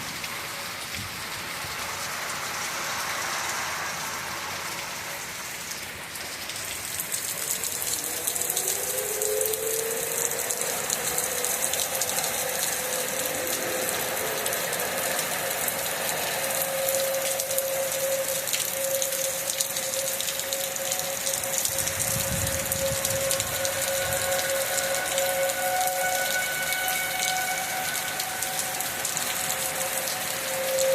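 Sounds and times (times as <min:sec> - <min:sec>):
heavy rain hiss: 0:00.0 - 0:30.9
warning siren wailing: 0:00.0 - 0:30.9.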